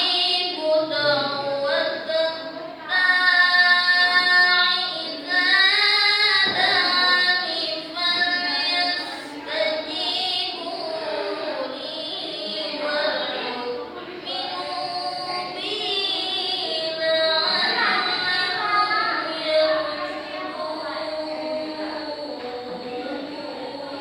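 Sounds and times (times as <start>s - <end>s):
person reciting melodically: 0.0s - 24.0s.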